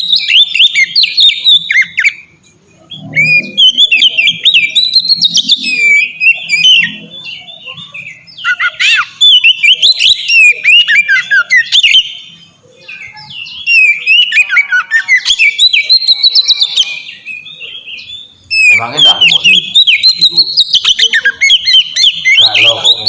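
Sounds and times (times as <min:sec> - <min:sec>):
bird singing whistles and trills: 0:00.0 - 0:23.0.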